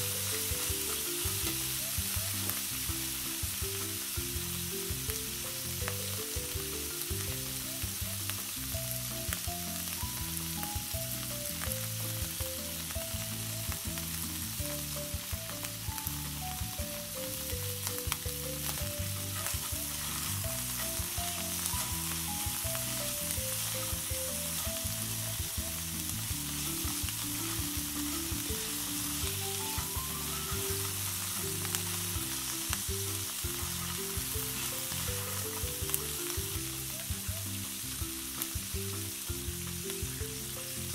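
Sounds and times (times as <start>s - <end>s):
background tune: 0.0s - 40.9s
crayfish sizzling in skillet: 0.0s - 40.9s.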